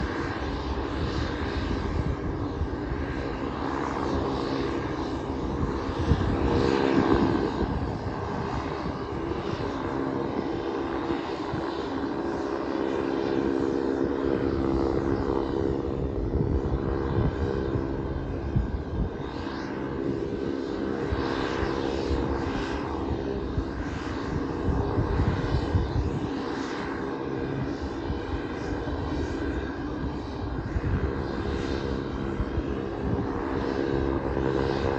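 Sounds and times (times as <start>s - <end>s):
turboprop propeller drone: 0.0s - 34.9s.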